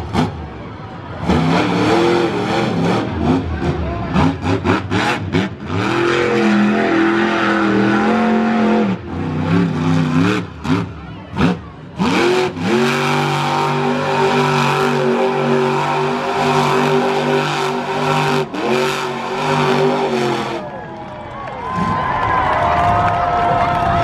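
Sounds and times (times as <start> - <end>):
truck engine revving hard: 0.0 - 21.0.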